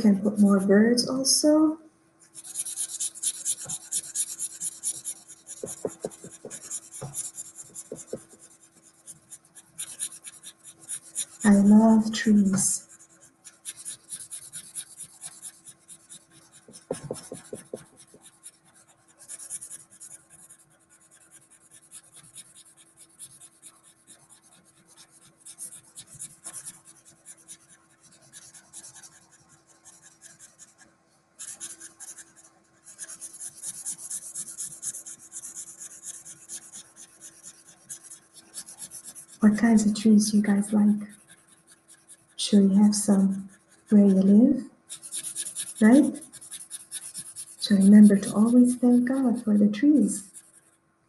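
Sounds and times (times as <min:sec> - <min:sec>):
marker scribbling on paper: 0:00.0 - 0:01.6, 0:02.2 - 0:50.8.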